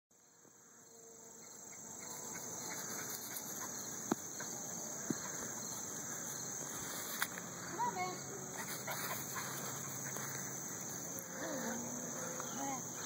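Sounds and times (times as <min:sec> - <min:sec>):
high-pitched insect chorus: 0:00.2 - 0:13.0.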